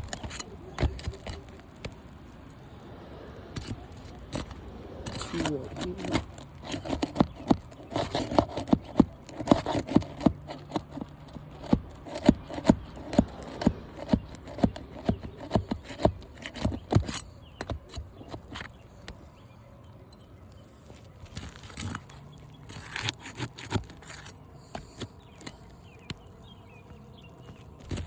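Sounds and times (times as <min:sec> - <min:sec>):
tool scraping roof shingles: 0:00.0 - 0:19.5, 0:20.8 - 0:28.0.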